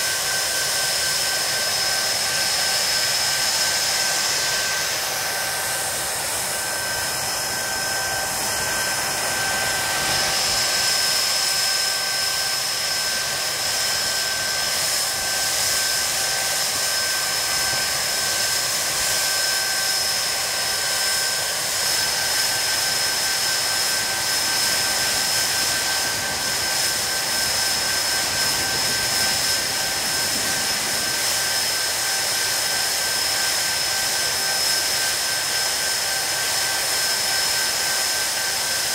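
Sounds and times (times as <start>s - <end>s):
high-pitched compressor whine: 0.0s - 38.9s
jet engines running: 0.0s - 38.9s.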